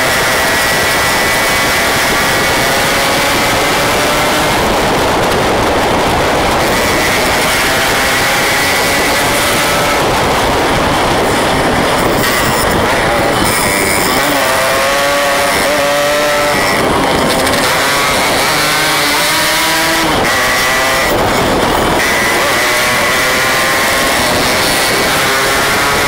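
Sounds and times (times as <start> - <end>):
steady rush of noise: 0.0 - 26.0
two-stroke motorcycles revving: 0.0 - 26.0.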